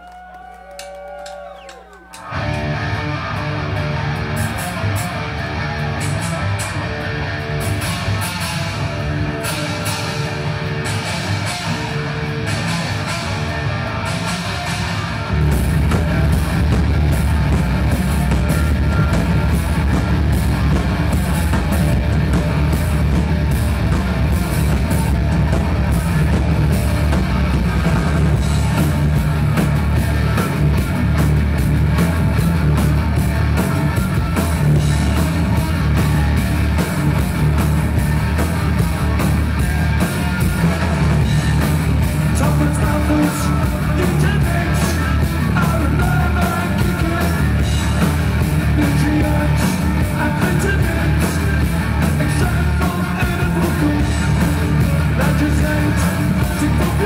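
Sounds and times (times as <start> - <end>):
rock band playing live: 2.1 - 57.0.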